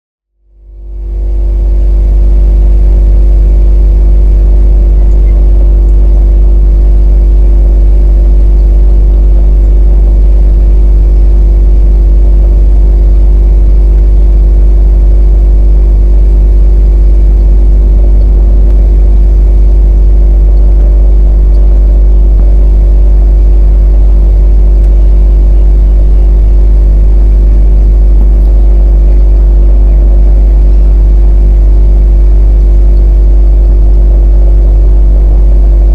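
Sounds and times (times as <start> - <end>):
deep rumble: 0.3 - 35.9
drone propeller hum: 0.3 - 35.9
steady tones: 1.0 - 35.9.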